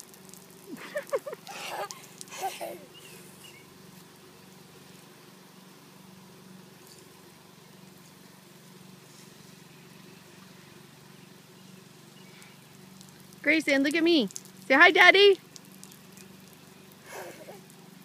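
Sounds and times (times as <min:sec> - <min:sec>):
low steady hum: 0:00.0 - 0:18.0
sprinkler water spray on grass: 0:00.0 - 0:18.0.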